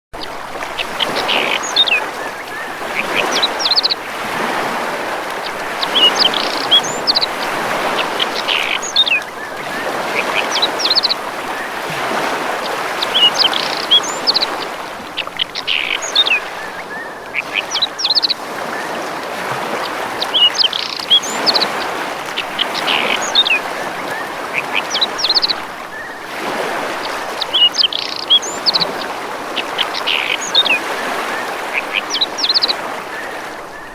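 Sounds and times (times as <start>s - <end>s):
birds chirping: 0.2s - 33.9s
rushing water: 0.2s - 33.9s.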